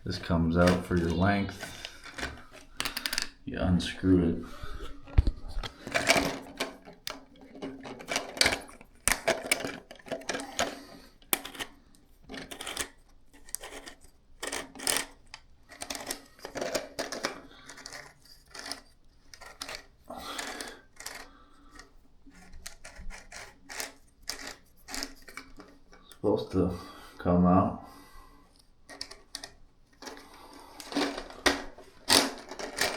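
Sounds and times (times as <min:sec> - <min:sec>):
plastic parts clicking and rattling: 0:00.0 - 0:26.3, 0:28.6 - 0:32.9.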